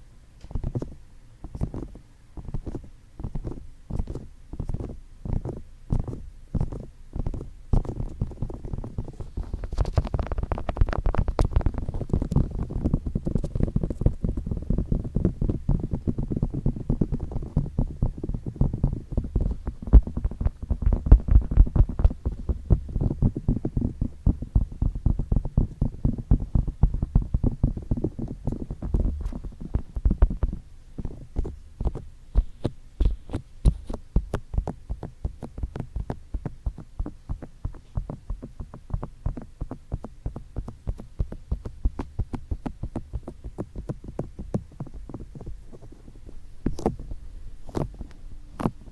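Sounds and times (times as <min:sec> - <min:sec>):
fingertips tapping on microphone: 0:00.4 - 0:48.9.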